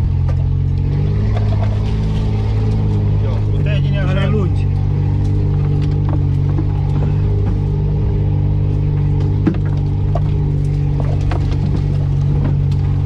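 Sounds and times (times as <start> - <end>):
vehicle engine at low revs: 0.0 - 13.0.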